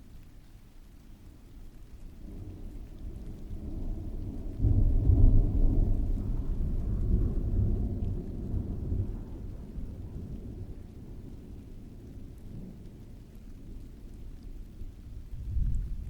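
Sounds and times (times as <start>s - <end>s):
steady rain: 0.0s - 16.0s
rolling thunder: 2.2s - 13.8s, 14.6s - 16.0s.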